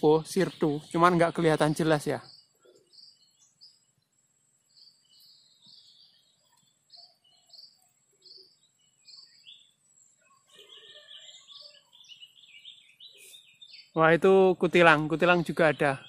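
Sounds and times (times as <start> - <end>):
birds chattering: 0.0 - 16.0
songbirds chirping: 0.0 - 16.0.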